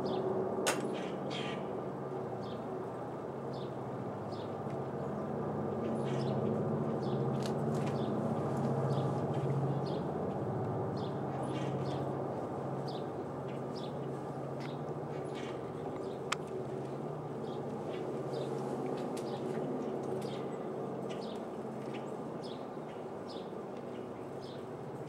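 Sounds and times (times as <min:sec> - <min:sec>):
locomotive engines droning: 0:00.0 - 0:25.0.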